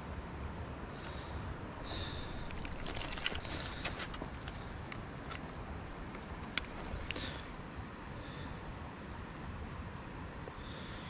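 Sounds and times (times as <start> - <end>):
low background rush: 0.0 - 11.0.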